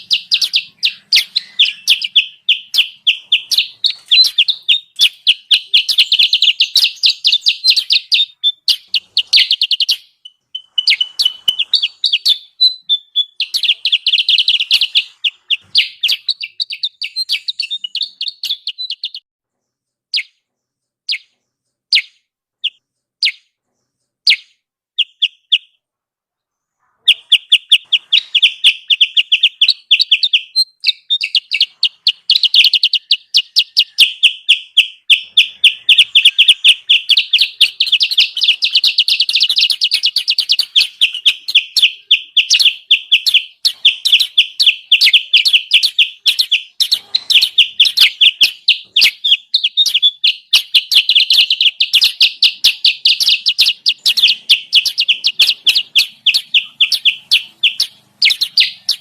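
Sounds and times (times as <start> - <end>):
rapid sharp bird chirps: 0.0 - 25.8, 26.4 - 59.0.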